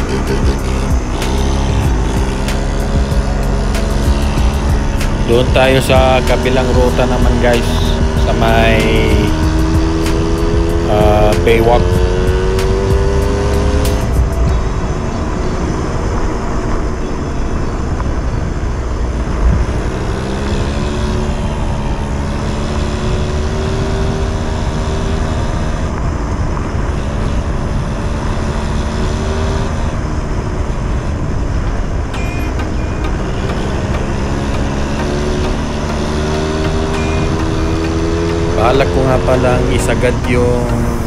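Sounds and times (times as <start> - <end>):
scooter engine running: 0.0 - 41.0
wind and road rumble: 0.0 - 41.0.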